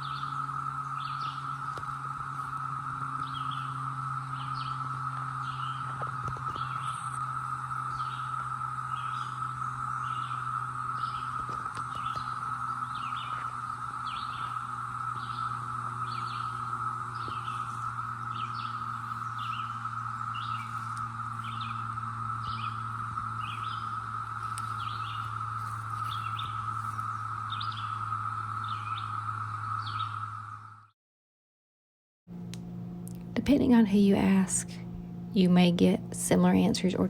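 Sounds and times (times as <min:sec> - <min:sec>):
cicada chorus drone: 0:00.0 - 0:30.9, 0:32.3 - 0:37.0.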